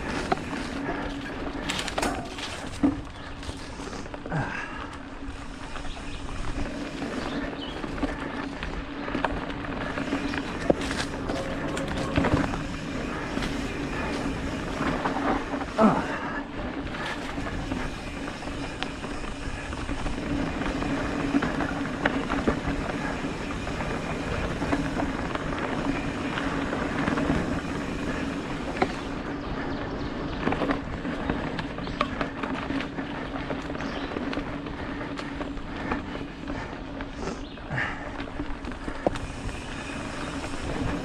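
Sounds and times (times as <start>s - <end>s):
bike rattling: 0.0s - 41.0s
bike tyres rumbling on dirt: 0.0s - 41.0s.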